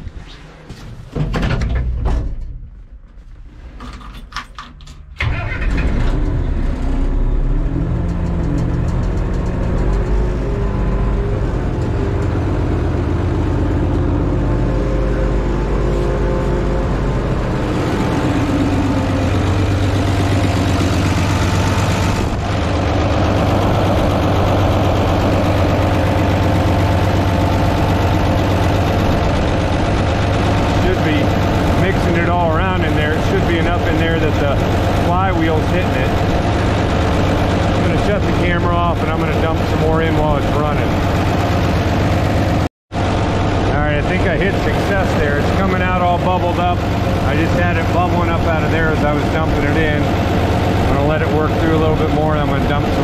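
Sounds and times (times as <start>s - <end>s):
tractor engine running: 2.8s - 53.0s.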